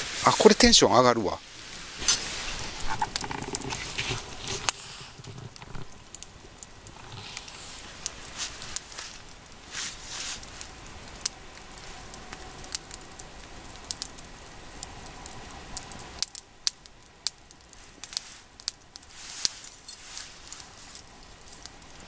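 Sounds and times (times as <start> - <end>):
campfire crackling and popping: 0.0 - 22.0
steady hiss: 0.0 - 22.0.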